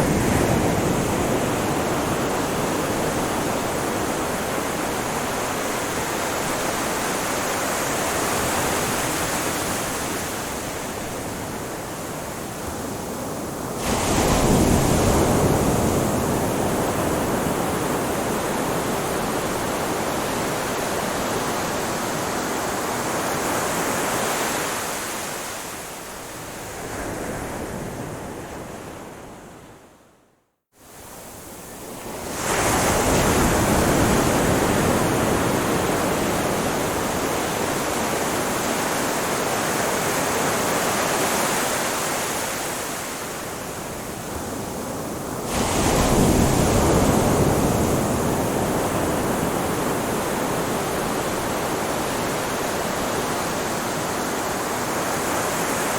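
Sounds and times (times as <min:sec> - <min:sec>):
ocean waves washing onto shore: 0:00.0 - 0:29.8, 0:30.8 - 0:55.9.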